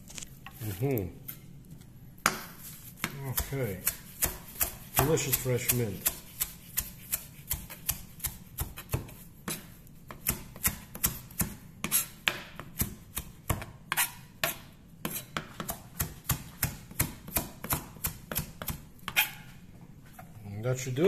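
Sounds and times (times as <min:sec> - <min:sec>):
knife chopping on cutting board: 0:02.2 - 0:19.4.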